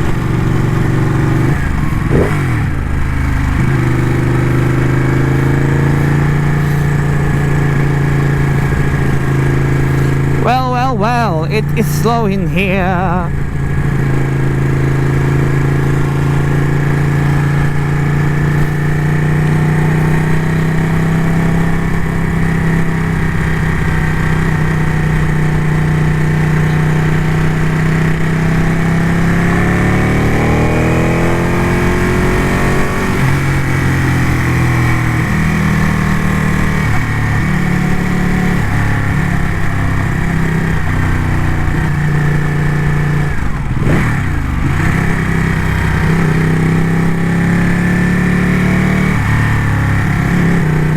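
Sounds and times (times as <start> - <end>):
motorcycle engine running: 0.0 - 12.0, 12.7 - 50.9.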